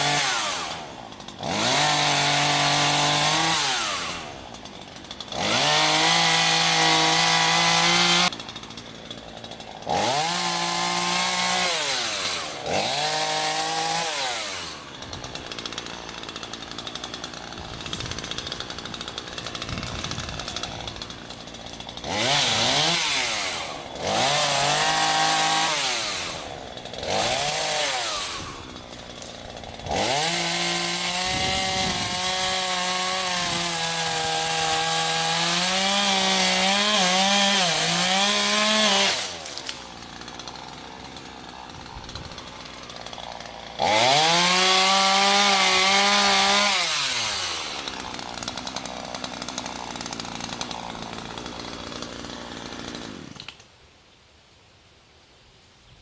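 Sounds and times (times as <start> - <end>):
chainsaw idling: 0.0 - 53.6
chainsaw revving: 0.0 - 53.6.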